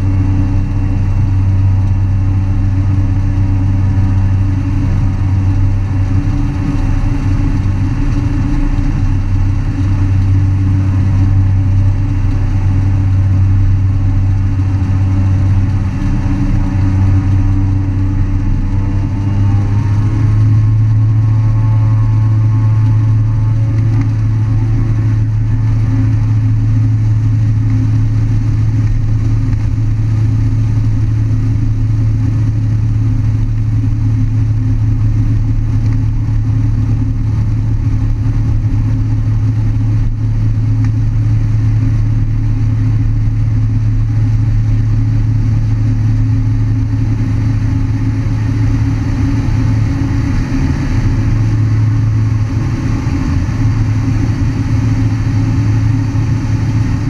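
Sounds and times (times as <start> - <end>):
turboprop engine and propeller: 0.0 - 57.0.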